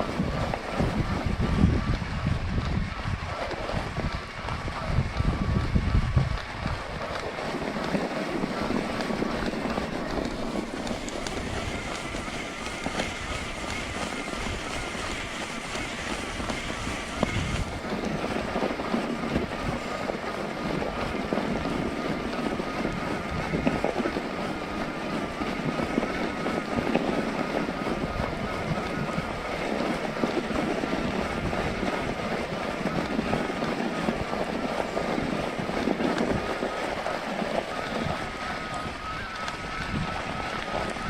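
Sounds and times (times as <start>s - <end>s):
faint steady whine: 0.0s - 41.0s
wind on microphone: 0.0s - 41.0s.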